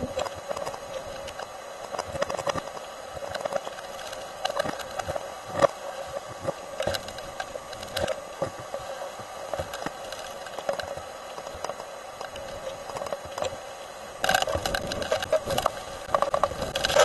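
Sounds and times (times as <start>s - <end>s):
wind-driven rain rushing: 0.0s - 17.0s.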